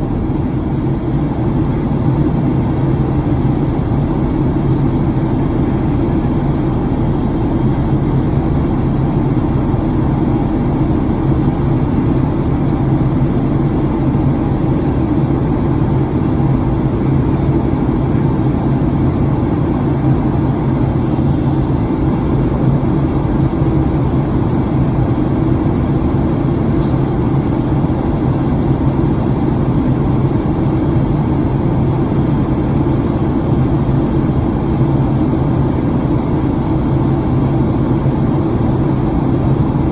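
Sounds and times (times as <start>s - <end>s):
airplane cabin hum: 0.0s - 39.9s.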